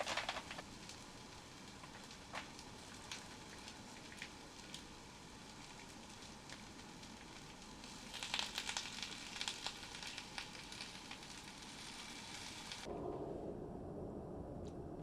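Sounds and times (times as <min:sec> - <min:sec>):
food sizzling in a pan: 0:00.0 - 0:12.9
sharp crackles and pops: 0:00.0 - 0:13.3.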